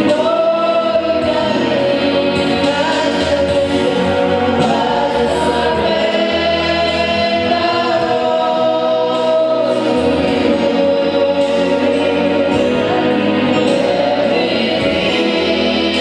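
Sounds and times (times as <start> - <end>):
choir singing gospel song: 0.0 - 16.0
low backing notes: 0.0 - 16.0.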